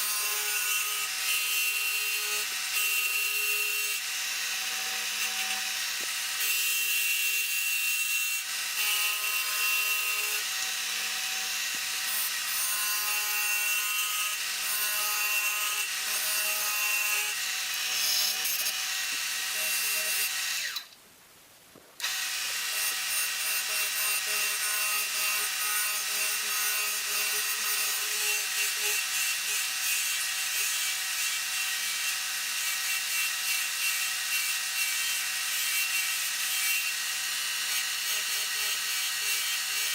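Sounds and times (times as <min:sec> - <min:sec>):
turning tool cutting wood: 0:00.0 - 0:21.0, 0:22.0 - 0:39.9.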